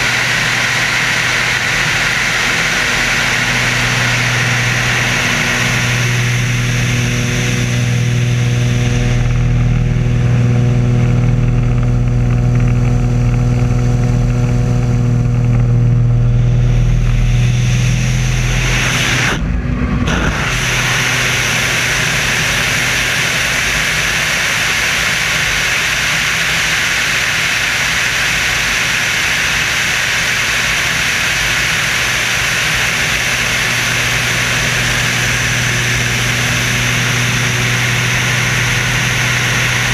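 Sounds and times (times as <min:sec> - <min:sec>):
rushing air: 0:00.0 - 0:09.7, 0:16.2 - 0:39.9
biplane engine droning: 0:00.0 - 0:39.9.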